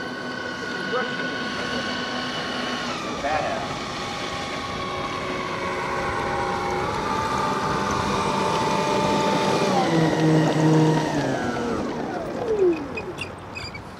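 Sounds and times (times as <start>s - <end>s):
model jet engines whining: 0.0s - 13.9s.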